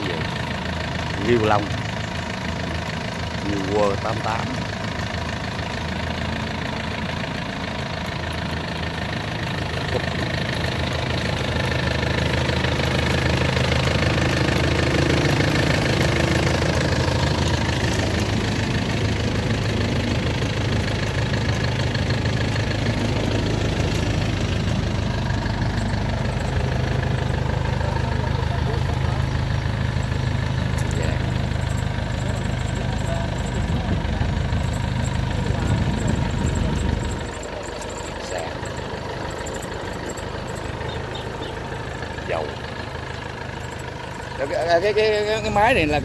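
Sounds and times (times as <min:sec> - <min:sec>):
diesel engine running steadily: 0:00.0 - 0:46.0.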